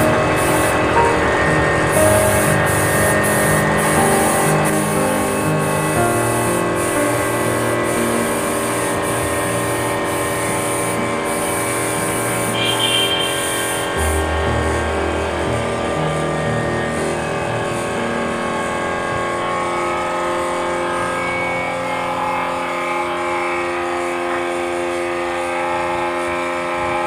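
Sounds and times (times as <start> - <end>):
droning synth music: 0.0 - 27.0.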